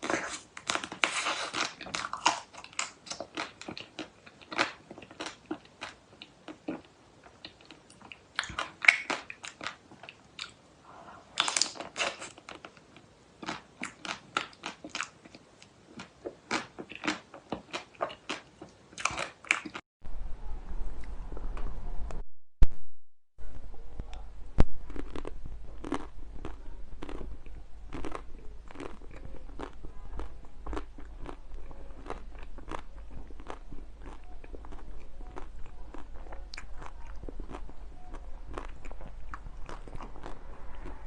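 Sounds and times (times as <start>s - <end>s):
person chewing crunchy food: 0.0s - 10.6s, 11.3s - 19.8s, 24.6s - 41.0s.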